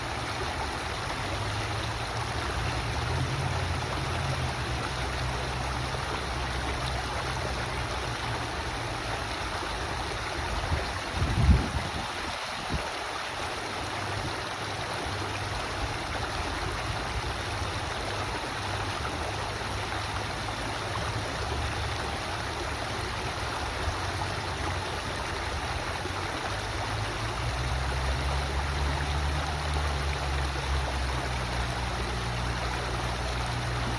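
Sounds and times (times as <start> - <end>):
river water flowing: 0.0 - 33.9.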